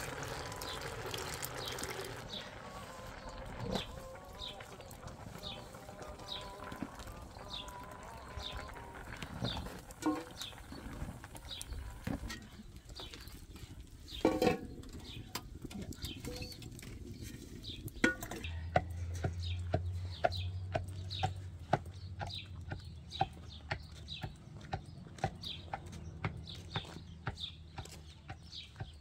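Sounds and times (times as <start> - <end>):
birds cheeping: 0.1 - 29.0.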